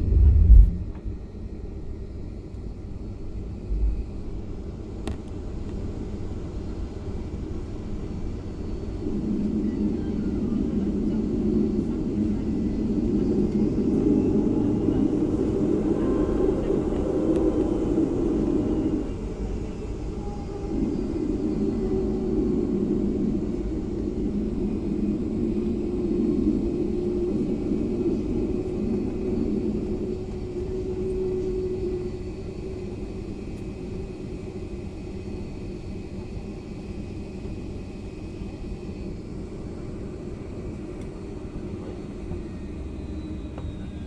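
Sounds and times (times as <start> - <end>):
aircraft cabin engine rumble: 0.0 - 44.0.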